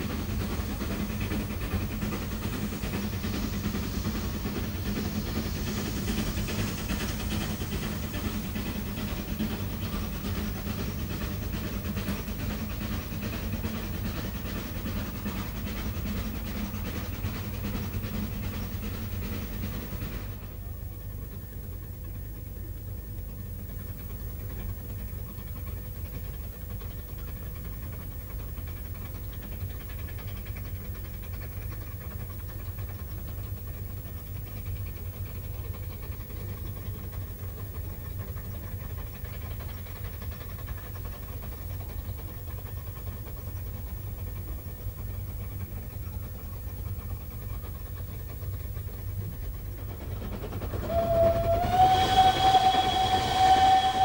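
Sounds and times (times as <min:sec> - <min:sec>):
distant steam locomotives chuffing: 0:00.0 - 0:54.0.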